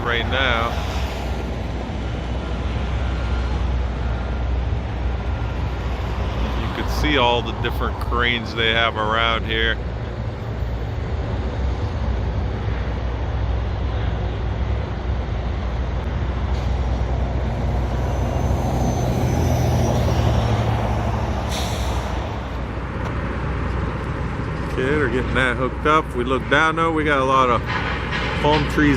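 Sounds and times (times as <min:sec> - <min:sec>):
diesel machinery engine rumble: 0:00.0 - 0:28.9.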